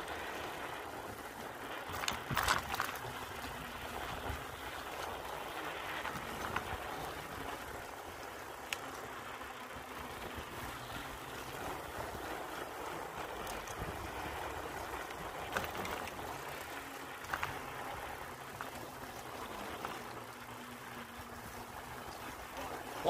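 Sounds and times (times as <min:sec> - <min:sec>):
bicycle tyres rumbling on planks: 0:00.0 - 0:23.0
wheels clacking over board joints: 0:01.4 - 0:09.4, 0:10.0 - 0:23.0.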